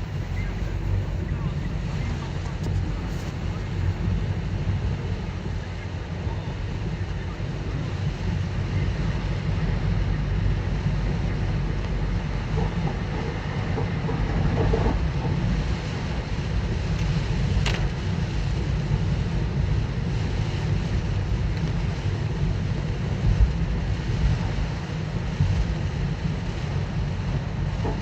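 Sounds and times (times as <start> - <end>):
car road and engine rumble: 0.0 - 28.0
wind noise: 0.0 - 28.0.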